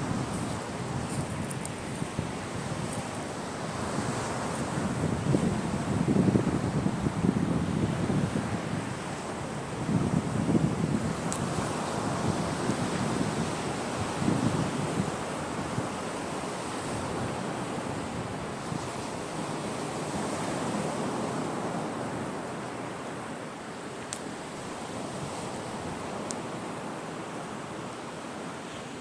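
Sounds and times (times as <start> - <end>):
sea waves washing ashore: 0.0 - 29.0.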